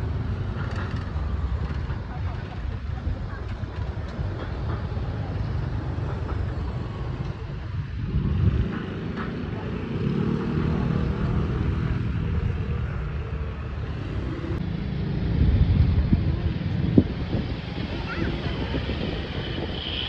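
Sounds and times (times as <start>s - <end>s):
scooters and cars passing: 0.0s - 20.0s.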